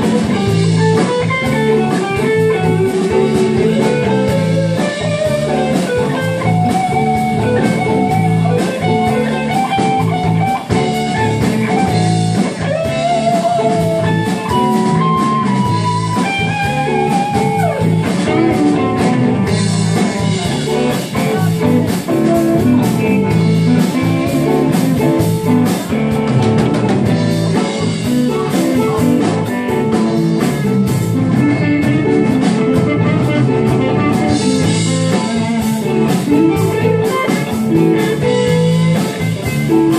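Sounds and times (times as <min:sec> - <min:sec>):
blues-rock band playing: 0:00.0 - 0:39.9
electric guitar lead with bent notes: 0:00.0 - 0:39.9.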